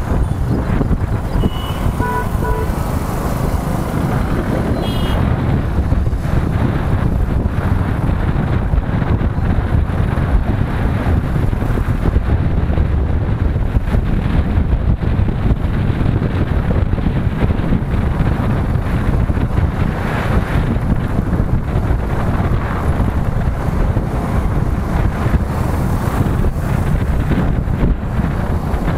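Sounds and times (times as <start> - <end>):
motorcycle running: 0.0 - 28.9
road noise: 0.0 - 28.9
wind buffeting microphone: 0.0 - 28.9.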